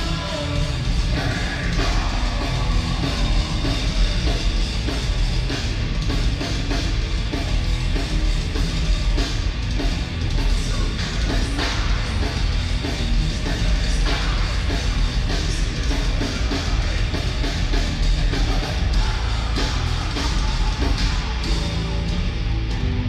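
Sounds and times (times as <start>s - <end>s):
distorted electric guitars riff: 0.0s - 23.0s
drum kit: 0.0s - 23.0s.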